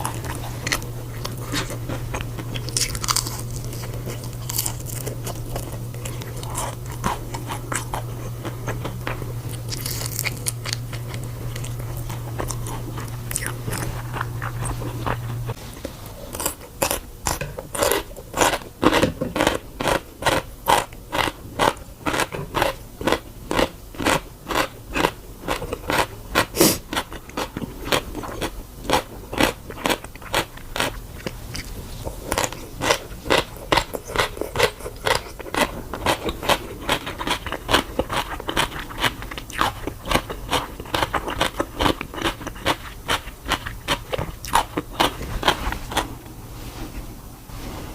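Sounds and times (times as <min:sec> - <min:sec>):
person chewing crunchy food: 0:00.0 - 0:46.7
low steady hum: 0:00.0 - 0:47.9.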